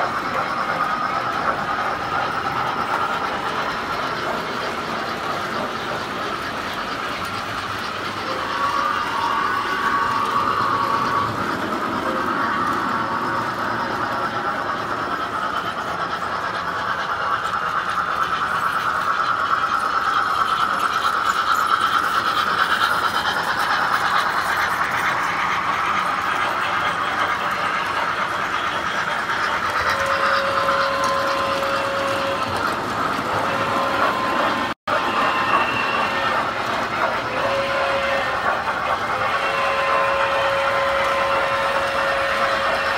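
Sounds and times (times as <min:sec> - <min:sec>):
toy trains rattling on metal track: 0:00.0 - 0:42.9.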